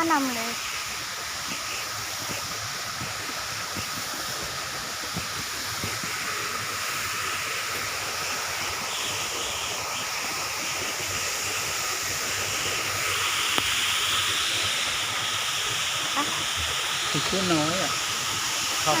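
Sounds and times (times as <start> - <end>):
waterfall pouring and splashing: 0.0 - 19.0.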